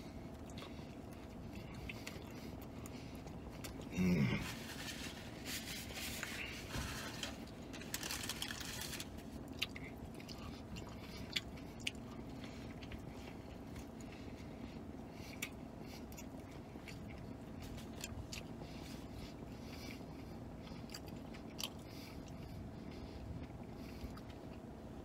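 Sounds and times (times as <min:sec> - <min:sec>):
faint steady hum: 0:00.0 - 0:25.0
man chewing food: 0:00.0 - 0:25.0.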